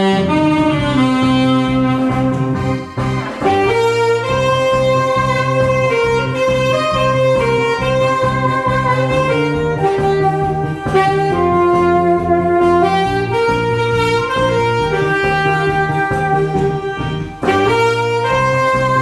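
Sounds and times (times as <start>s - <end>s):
backing band with bass and guitar: 0.0s - 19.0s
saxophone melody: 0.0s - 19.0s.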